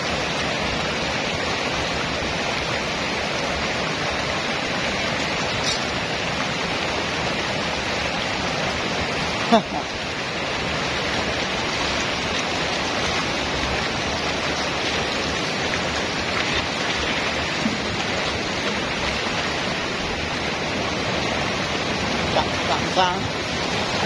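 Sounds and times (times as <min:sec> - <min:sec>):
shallow water rushing: 0:00.0 - 0:24.0.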